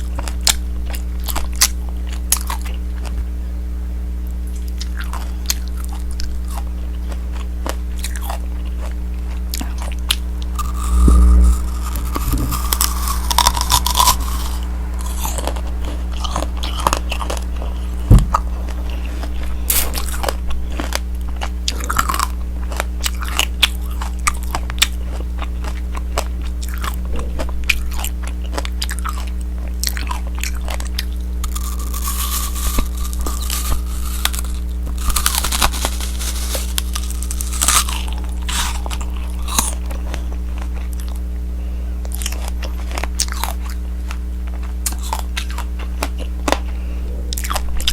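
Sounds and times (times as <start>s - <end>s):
low hum: 0.0s - 42.1s
candy shell crunching: 4.5s - 41.2s, 42.0s - 46.7s.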